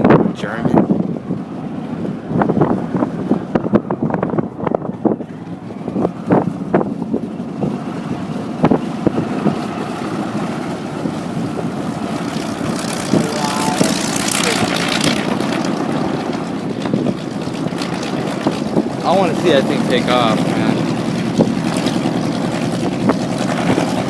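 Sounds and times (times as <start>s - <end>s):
steady mechanical drone: 0.0s - 24.0s
wind buffeting microphone: 0.0s - 24.0s.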